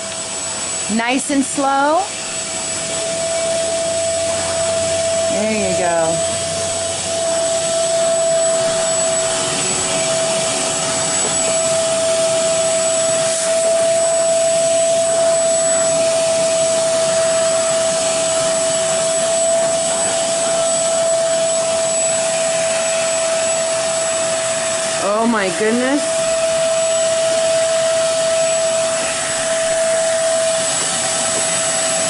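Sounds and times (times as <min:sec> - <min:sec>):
hose sucking up water: 0:00.0 - 0:32.0
suction motor whining: 0:00.0 - 0:32.0.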